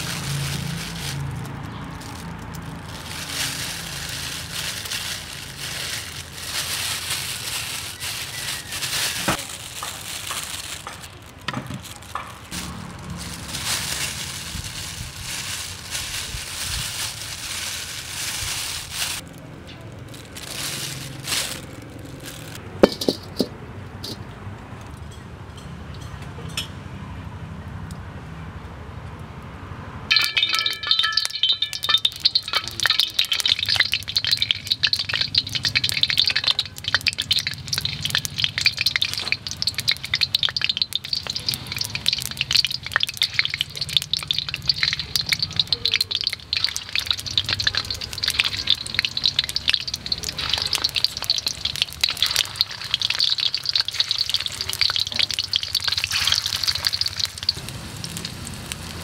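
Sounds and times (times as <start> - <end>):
food crackling in hot oil: 0.0 - 24.2, 30.1 - 59.0.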